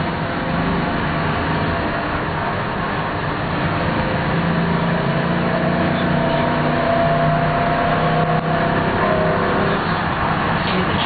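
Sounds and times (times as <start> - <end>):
tram rumbling on track: 0.0 - 11.0.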